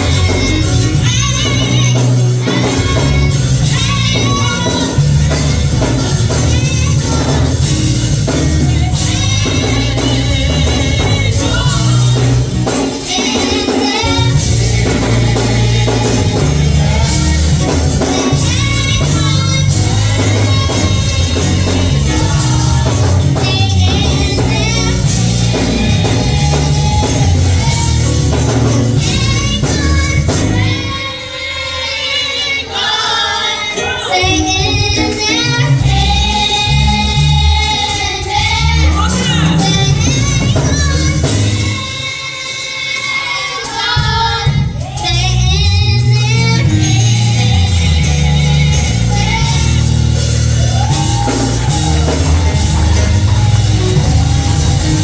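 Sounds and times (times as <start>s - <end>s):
bass line: 0.0s - 31.1s, 34.2s - 42.0s, 44.1s - 55.0s
drums or tambourine beat: 0.0s - 55.0s
live gospel music with singing: 0.0s - 55.0s.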